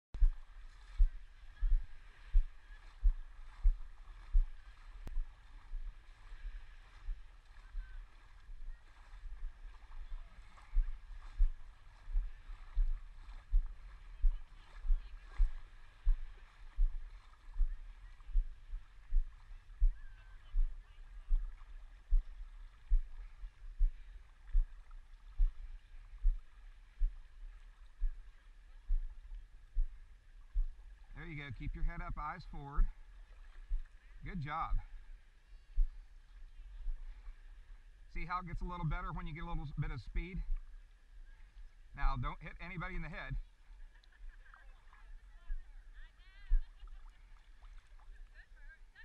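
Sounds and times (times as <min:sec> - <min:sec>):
water sloshing against camera: 0:00.2 - 0:49.0.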